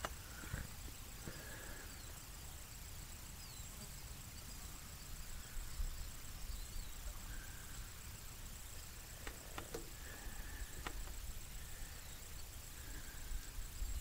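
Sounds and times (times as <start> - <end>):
faint steady high whine: 0.0 - 14.0
faint bird chirps: 0.1 - 14.0.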